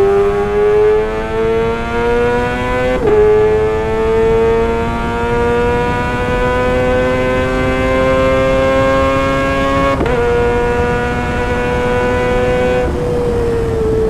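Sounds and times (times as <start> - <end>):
motorcycle engine revving high: 0.0 - 14.0.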